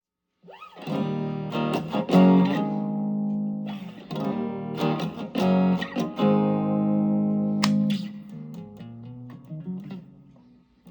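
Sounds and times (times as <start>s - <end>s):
electric guitar through amplifier: 0.7s - 10.9s.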